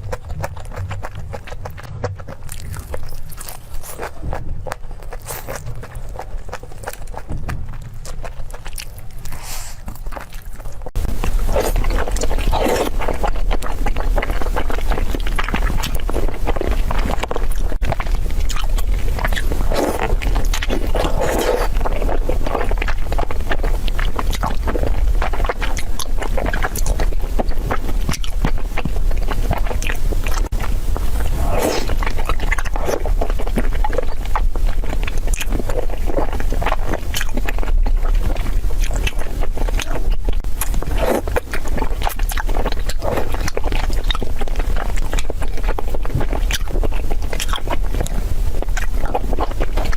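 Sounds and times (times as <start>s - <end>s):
crunchy chewing: 0.0s - 49.9s
steady low rumble: 0.0s - 49.9s.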